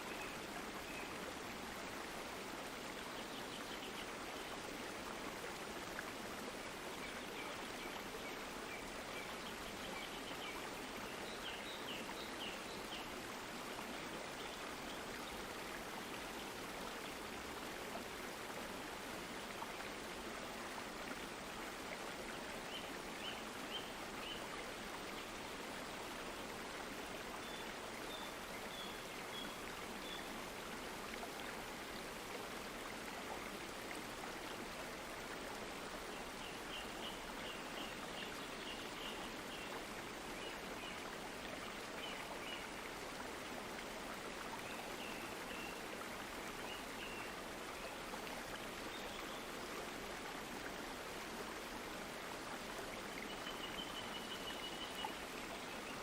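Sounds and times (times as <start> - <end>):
running stream water: 0.0 - 56.0.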